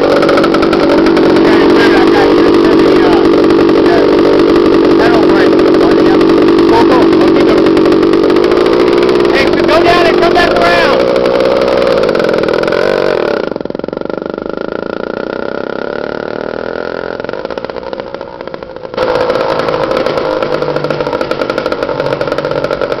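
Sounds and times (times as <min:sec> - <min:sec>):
small engine buzzing: 0:00.0 - 0:23.0.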